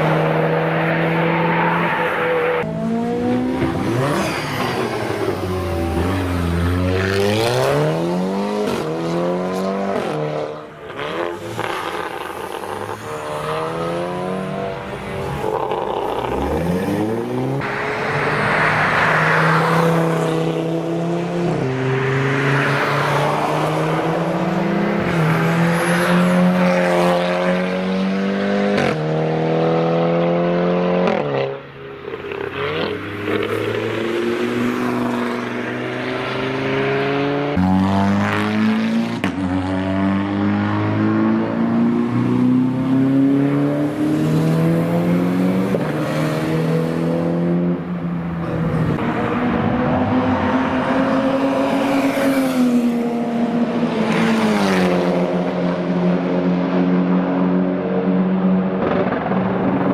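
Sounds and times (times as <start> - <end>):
car engines accelerating hard: 0.0 - 59.9.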